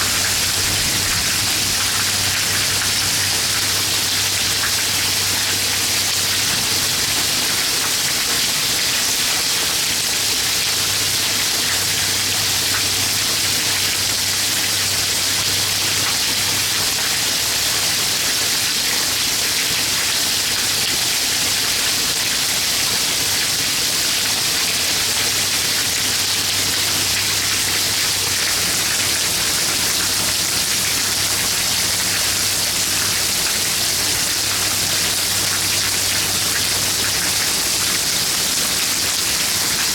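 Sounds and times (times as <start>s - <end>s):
heavy rain and hail: 0.0s - 39.9s.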